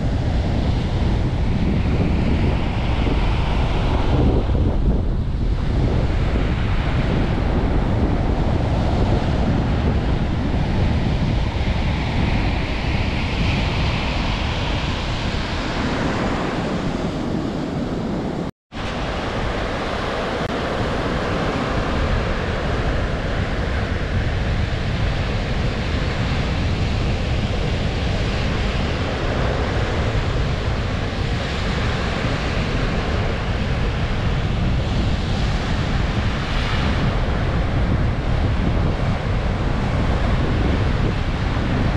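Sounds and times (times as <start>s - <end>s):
strong wind buffeting microphone: 0.0s - 41.9s
surf breaking on shore: 0.0s - 41.9s.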